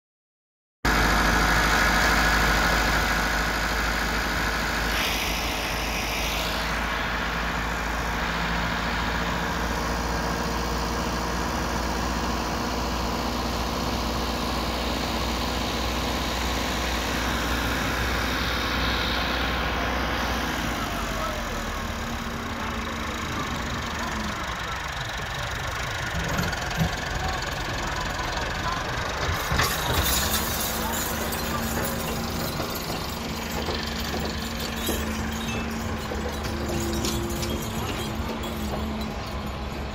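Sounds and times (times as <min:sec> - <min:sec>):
diesel engine idling: 0:00.9 - 0:39.9.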